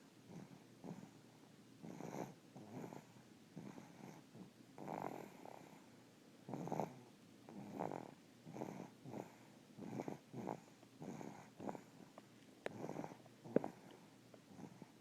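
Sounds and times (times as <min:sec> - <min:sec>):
snoring: 0:00.3 - 0:01.2, 0:01.8 - 0:05.8, 0:06.5 - 0:12.1, 0:12.7 - 0:13.9, 0:14.5 - 0:14.9.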